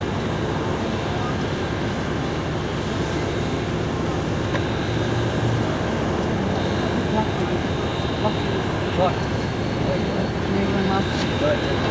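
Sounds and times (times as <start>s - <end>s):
car road and wind noise: 0.0s - 11.9s.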